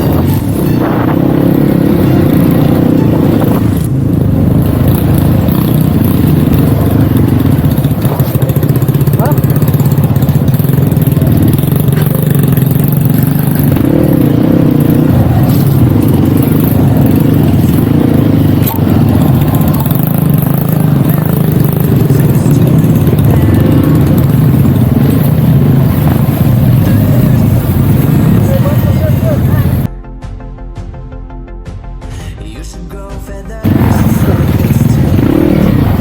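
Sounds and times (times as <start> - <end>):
dirt bike engine running: 0.0 - 29.9, 33.6 - 36.0.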